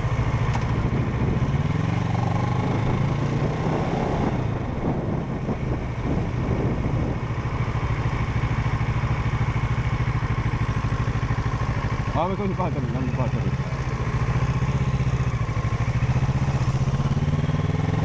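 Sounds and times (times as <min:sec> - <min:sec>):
motorcycle engine idling: 0:00.0 - 0:01.9, 0:04.6 - 0:18.0.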